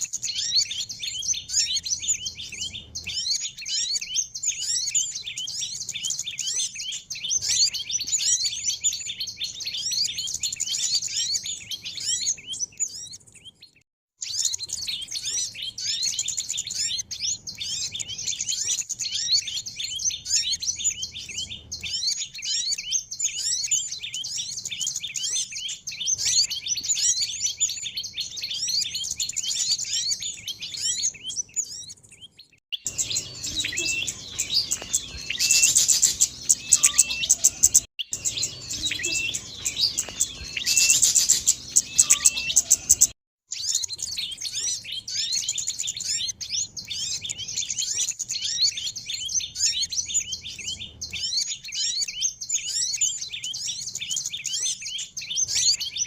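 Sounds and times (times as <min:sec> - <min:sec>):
sharp clicky bird calls: 0:00.0 - 0:56.0
small birds twittering: 0:00.0 - 0:56.0.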